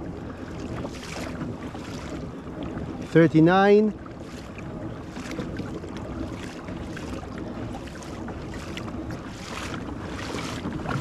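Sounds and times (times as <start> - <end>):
water washing along kayak hull: 0.0 - 11.0
wind buffeting microphone: 0.0 - 11.0.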